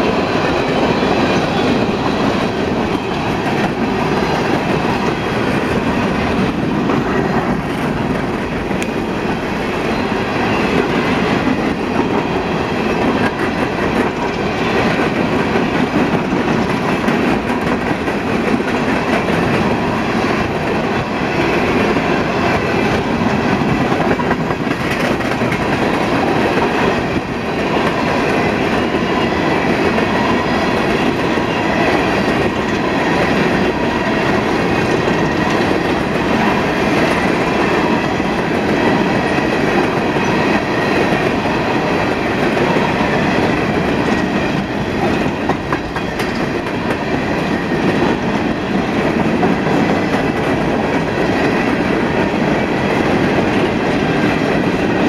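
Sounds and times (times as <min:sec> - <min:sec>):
train cars rumbling past: 0:00.0 - 0:55.0.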